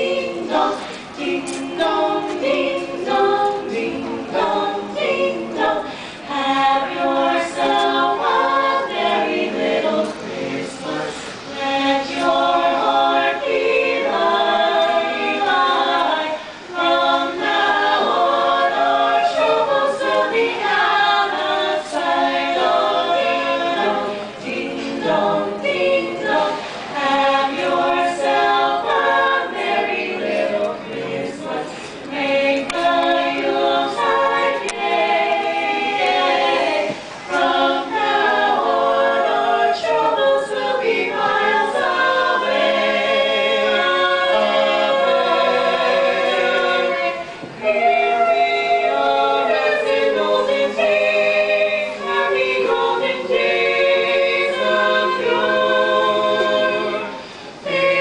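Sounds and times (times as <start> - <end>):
group singing a cappella carol: 0.0 - 58.0.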